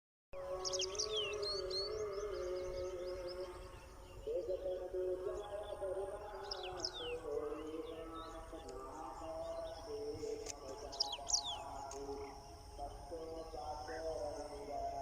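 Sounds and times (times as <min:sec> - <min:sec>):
distant person singing long notes: 0:00.4 - 0:15.0
small birds chirping: 0:00.4 - 0:15.0.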